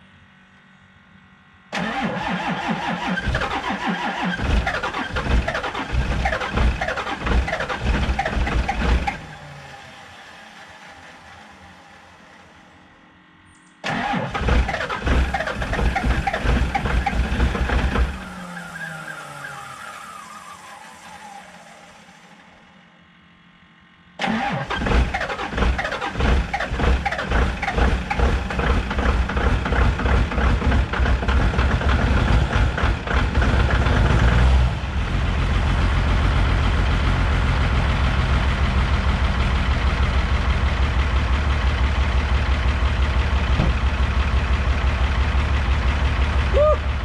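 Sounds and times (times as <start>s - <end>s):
diesel engine starting and idling: 1.7s - 13.0s, 13.8s - 22.9s, 24.2s - 47.0s.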